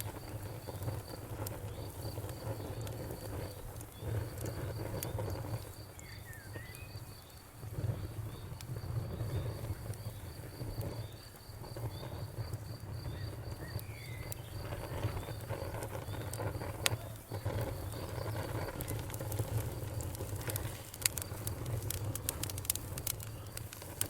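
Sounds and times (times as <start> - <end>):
insect chirps: 0.0 - 24.0
wood fire crackling: 0.0 - 24.0.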